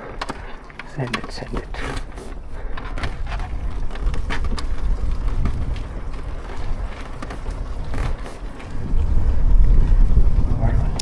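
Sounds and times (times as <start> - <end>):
drivetrain clicks: 0.0 - 9.8
motorcycle rolling and rattling: 0.0 - 11.0
wind buffeting: 0.0 - 11.0.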